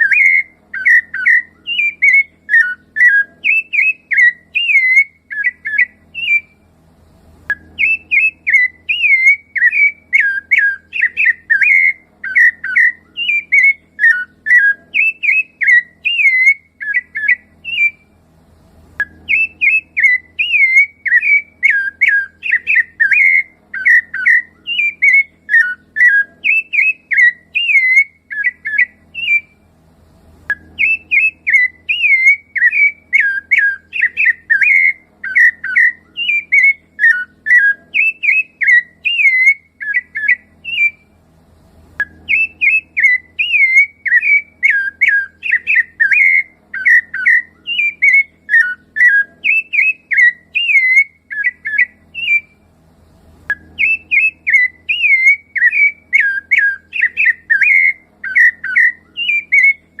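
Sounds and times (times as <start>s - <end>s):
thrush singing fluty whistles: 0.0s - 6.7s, 7.5s - 18.2s, 19.0s - 29.7s, 30.5s - 41.2s, 42.0s - 52.7s, 53.5s - 60.0s.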